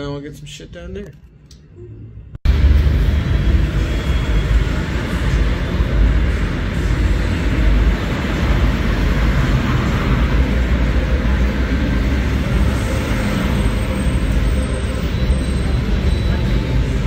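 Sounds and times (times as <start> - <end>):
vehicle rumbling: 0.0 - 17.0.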